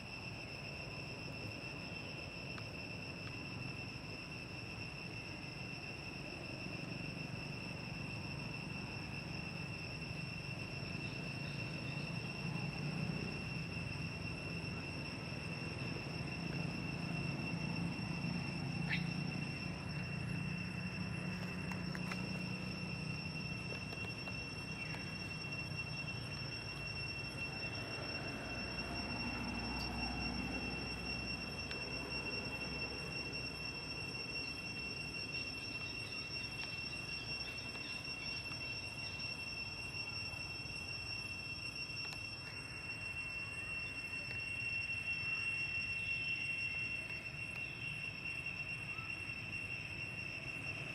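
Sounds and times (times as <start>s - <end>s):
insects droning: 0.0s - 50.9s.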